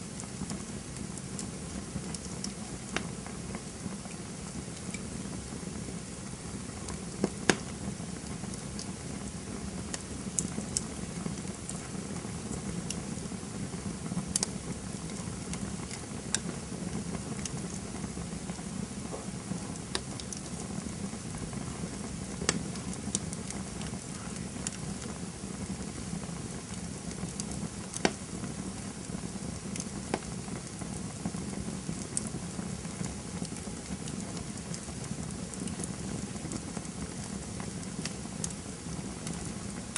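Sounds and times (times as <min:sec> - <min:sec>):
burning wood crackling and popping: 0:00.0 - 0:39.9
campfire flames rushing: 0:00.0 - 0:39.9.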